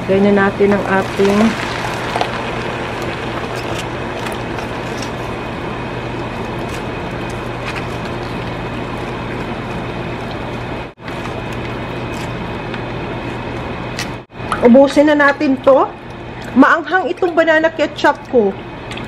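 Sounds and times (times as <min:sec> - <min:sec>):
mechanical fan hum: 0:00.0 - 0:19.0.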